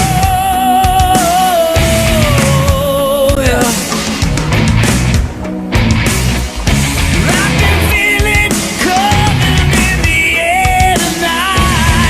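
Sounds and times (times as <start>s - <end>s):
heavy rock band: 0.0s - 12.0s
lead guitar line: 0.0s - 12.0s.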